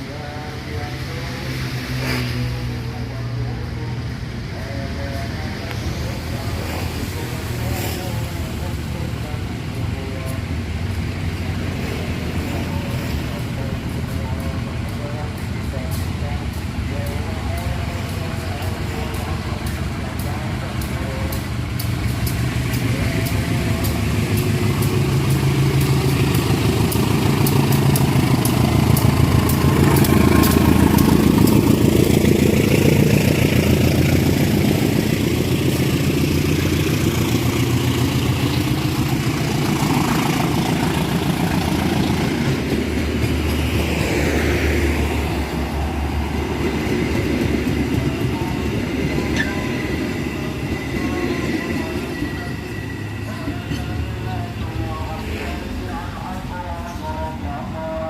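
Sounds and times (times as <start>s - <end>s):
train wheels clattering on rails: 7.6s - 54.5s.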